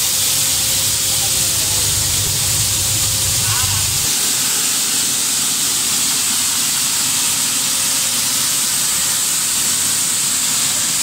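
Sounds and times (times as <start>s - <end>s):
milling machinery hiss and whir: 0.0s - 11.0s.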